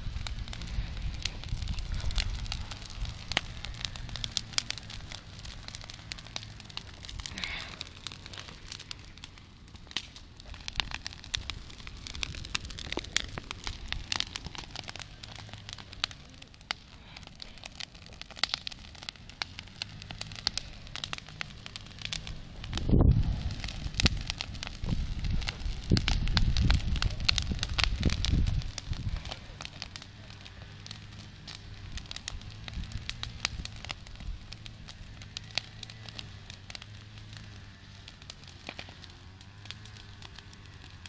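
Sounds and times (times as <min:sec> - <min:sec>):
low steady rumble: 0:00.0 - 0:40.9
campfire crackling: 0:00.0 - 0:41.0
fire snaps and pops: 0:00.0 - 0:41.0.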